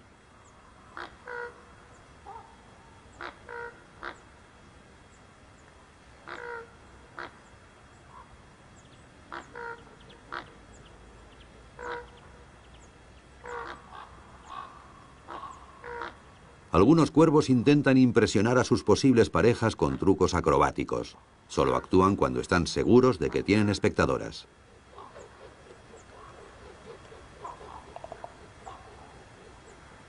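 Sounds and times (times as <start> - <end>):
ravens croaking: 0.5 - 4.4, 6.2 - 8.4, 9.2 - 12.6, 13.4 - 30.0.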